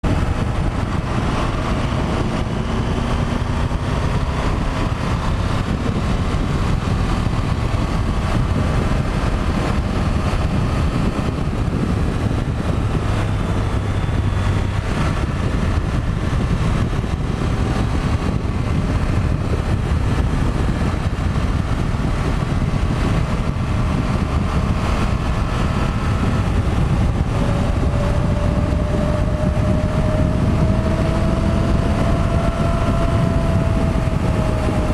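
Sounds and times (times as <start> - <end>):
motorcycle engine running: 0.0 - 34.9
rush of noise: 0.0 - 34.9.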